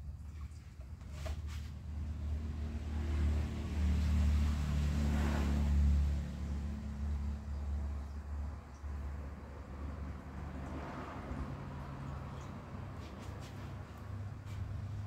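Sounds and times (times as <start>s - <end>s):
vehicle engine rumbling: 0.6s - 15.0s.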